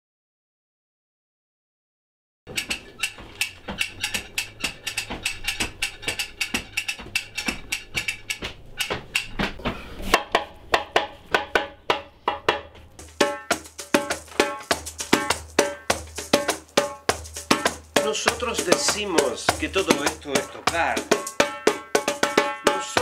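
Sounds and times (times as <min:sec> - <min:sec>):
dry clicking percussion: 0:02.5 - 0:09.6, 0:10.2 - 0:23.0
hollow knocks: 0:02.5 - 0:23.0.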